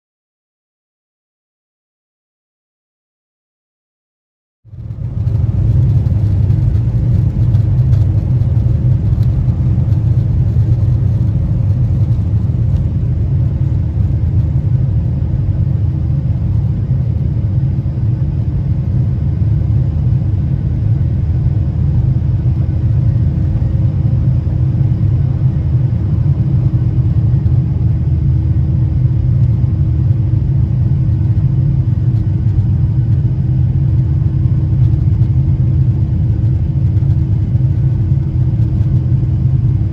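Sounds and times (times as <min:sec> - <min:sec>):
faint steady hum: 0:04.7 - 0:39.9
jet engines rumbling in cabin: 0:04.7 - 0:39.9.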